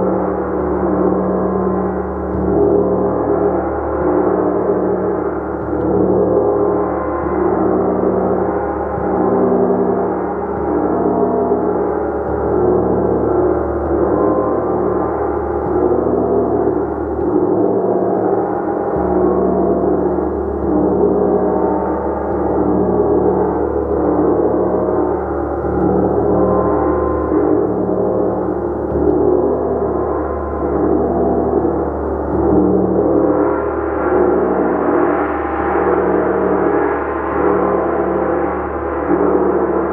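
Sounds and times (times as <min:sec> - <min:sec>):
gong shimmering: 0:00.0 - 0:39.9.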